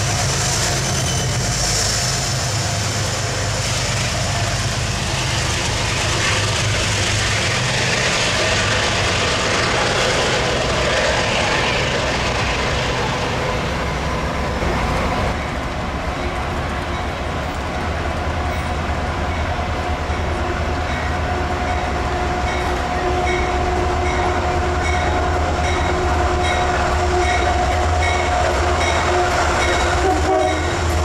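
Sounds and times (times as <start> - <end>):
train engine hum: 0.0 - 31.0
train wheels rumbling on rails: 0.0 - 31.0.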